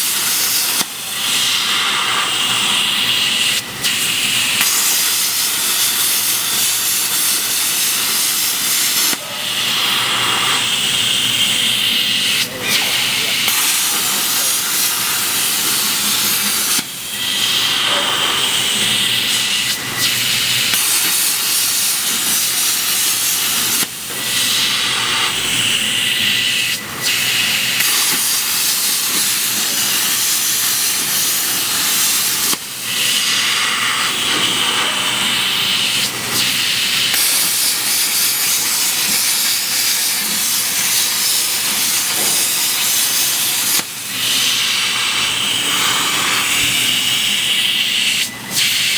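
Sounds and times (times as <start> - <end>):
plasma cutter torch hissing: 0.0 - 48.9.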